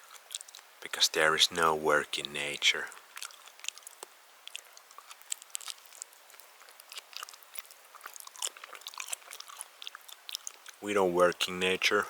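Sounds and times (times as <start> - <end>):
person chewing food: 0.0 - 0.8, 2.2 - 11.3.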